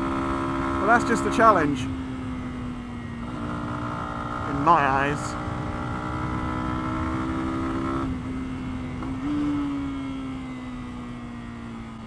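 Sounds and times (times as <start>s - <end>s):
motorcycle engine under way: 0.0s - 12.0s.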